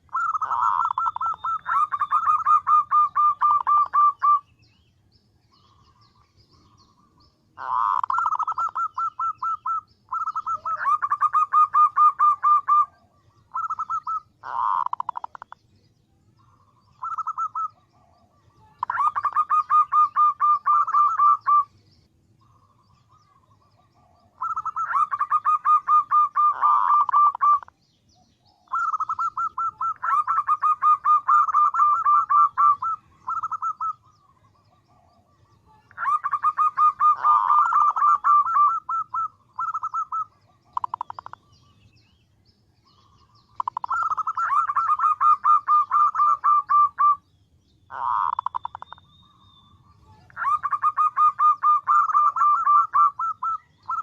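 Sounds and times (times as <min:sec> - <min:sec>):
dove calling: 0:00.0 - 0:04.8, 0:05.4 - 0:54.0.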